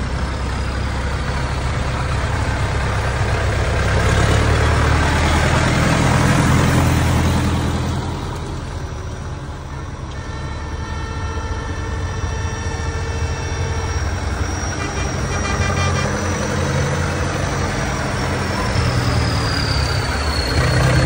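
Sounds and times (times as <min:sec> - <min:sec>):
tractor diesel engine passing: 0:00.0 - 0:21.0.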